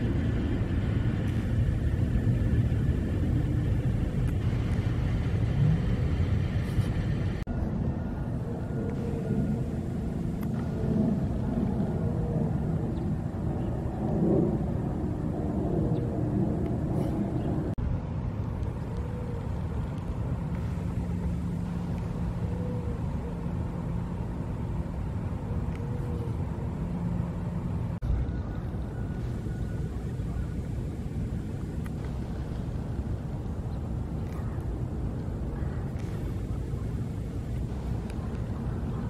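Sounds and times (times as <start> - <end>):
distant road traffic rumble: 0.0 - 39.0
faint hum: 0.0 - 39.0.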